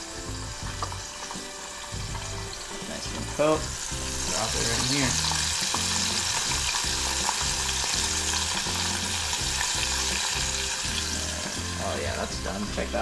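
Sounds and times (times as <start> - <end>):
squid sizzling in hot oil: 0.0 - 13.0.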